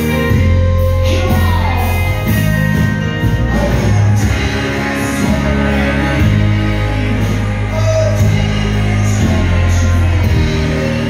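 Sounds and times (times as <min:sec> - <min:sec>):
deep bass notes: 0:00.0 - 0:11.0
keyboards: 0:00.0 - 0:11.0
man singing: 0:00.0 - 0:11.0.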